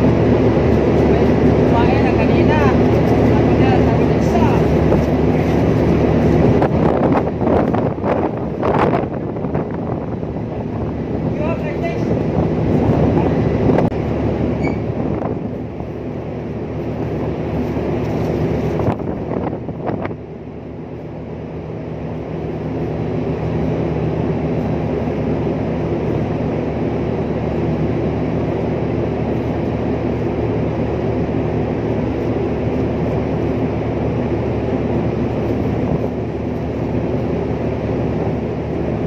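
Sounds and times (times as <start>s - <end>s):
ship machinery hum: 0.0s - 39.0s.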